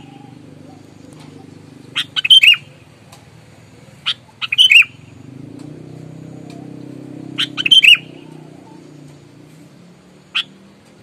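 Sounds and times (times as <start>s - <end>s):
bulbul singing: 0.0s - 11.0s.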